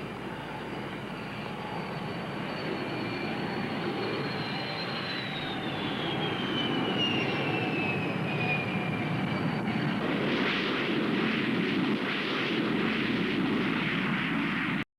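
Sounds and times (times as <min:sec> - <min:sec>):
jet engine roar: 0:00.0 - 0:14.8
jet engine whine: 0:00.0 - 0:14.9.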